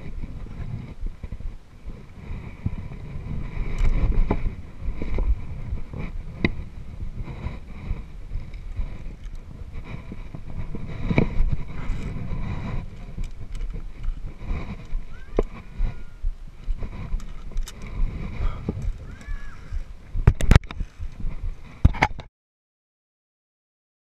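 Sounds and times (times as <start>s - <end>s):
wind buffeting microphone: 0.0s - 22.3s.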